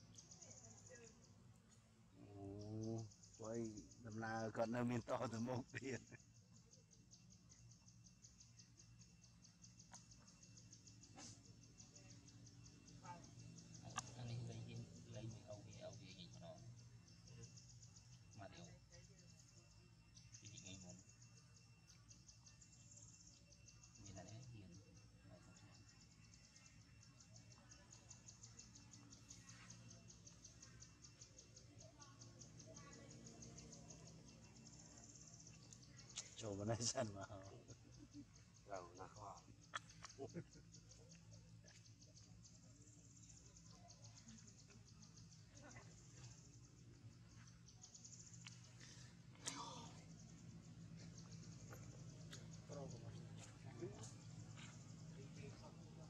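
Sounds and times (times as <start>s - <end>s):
faint insect chirping: 0.0s - 56.0s.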